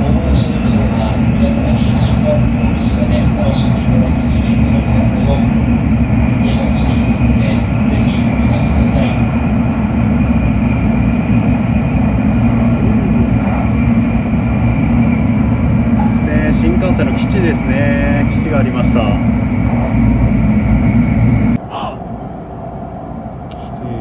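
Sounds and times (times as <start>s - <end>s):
train interior rumble and hiss: 0.0s - 24.0s.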